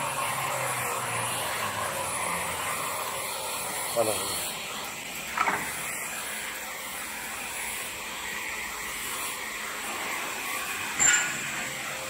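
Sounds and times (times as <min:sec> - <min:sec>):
wood turning machine hissing: 0:00.0 - 0:12.0.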